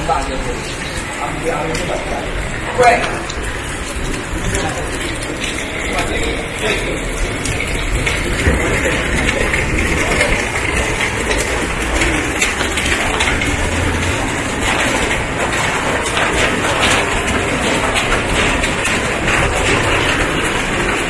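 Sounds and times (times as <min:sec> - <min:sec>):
heavy rain on street and roofs: 0:00.0 - 0:21.0.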